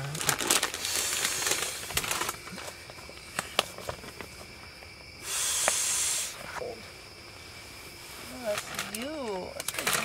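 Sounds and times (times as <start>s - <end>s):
steady hiss: 0.6s - 9.5s.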